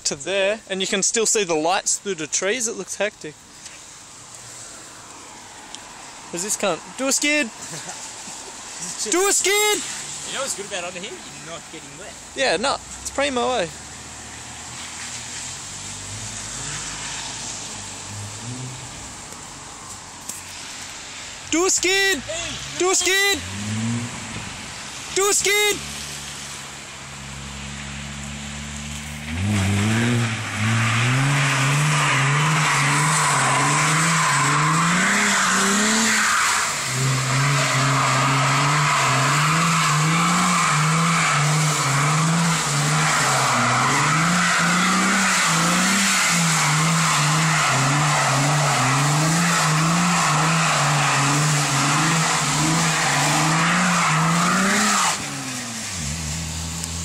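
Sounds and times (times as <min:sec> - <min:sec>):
tyres squealing on wet road: 0:00.0 - 0:57.0
car engine revving: 0:03.6 - 0:57.0.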